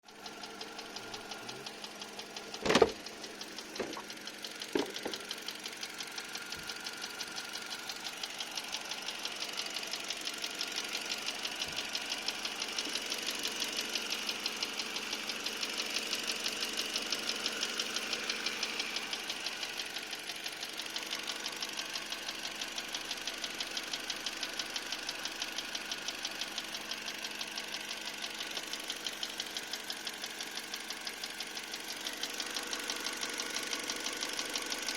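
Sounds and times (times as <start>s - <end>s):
car engine idling with knock: 0.1s - 34.9s.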